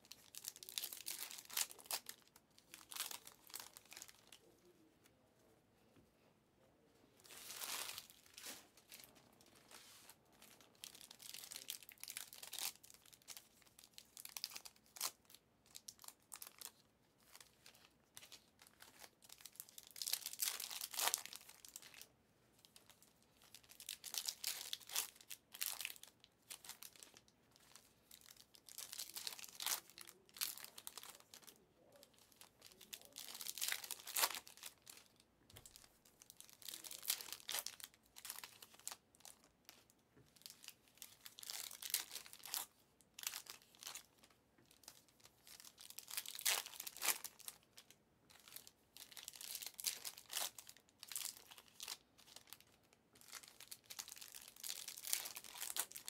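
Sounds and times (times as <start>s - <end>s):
plastic foil wrappers crinkling: 0.0s - 4.5s, 7.2s - 56.0s.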